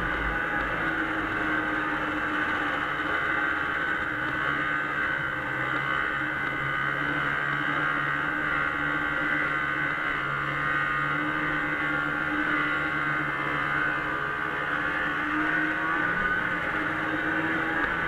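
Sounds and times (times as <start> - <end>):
snowmobile engine droning: 0.0 - 18.0.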